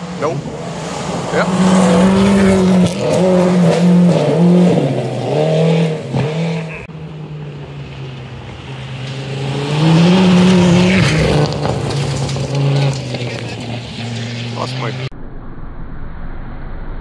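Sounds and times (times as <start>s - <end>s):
approaching rally car engine: 0.0s - 15.1s
rally car engine revving: 0.0s - 15.1s.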